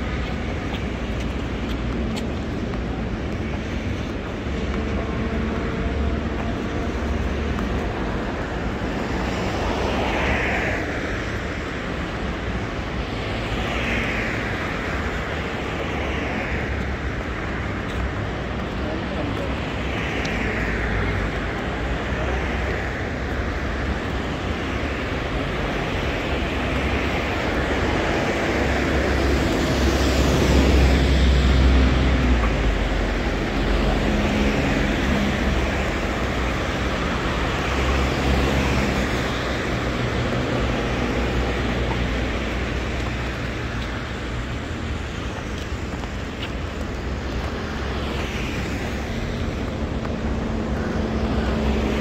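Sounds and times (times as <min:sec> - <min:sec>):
vehicles passing: 0:00.0 - 0:52.0.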